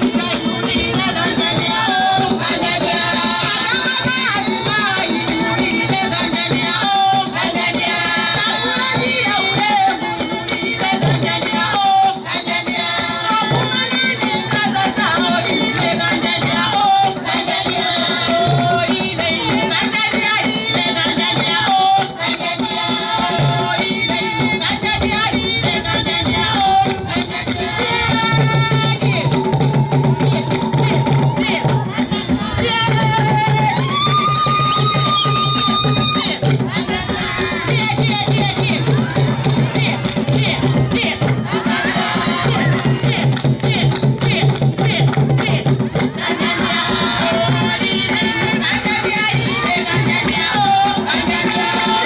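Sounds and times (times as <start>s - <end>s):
chorus of voices singing: 0.0s - 52.0s
hand drum beat: 0.0s - 52.0s.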